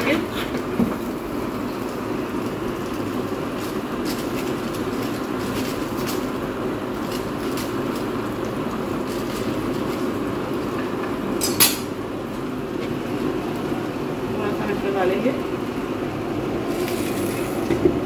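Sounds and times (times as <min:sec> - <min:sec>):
gas stove burner rushing: 0:00.0 - 0:18.0.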